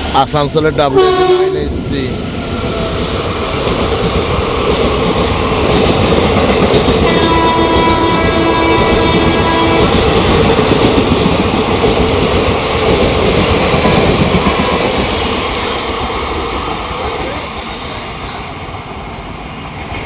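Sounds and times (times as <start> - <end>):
train passing on rails: 0.0 - 20.0.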